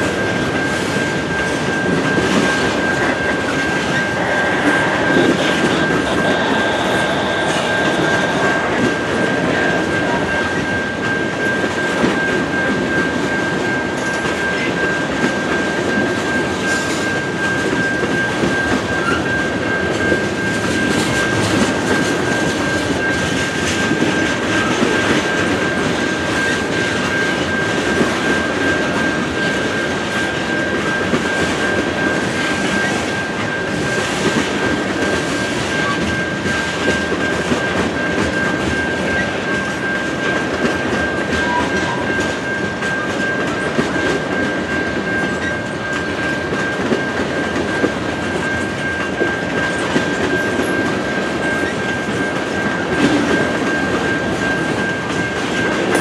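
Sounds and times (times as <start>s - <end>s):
crossing bell ringing: 0.0s - 56.0s
freight train wheels on rails: 0.0s - 56.0s.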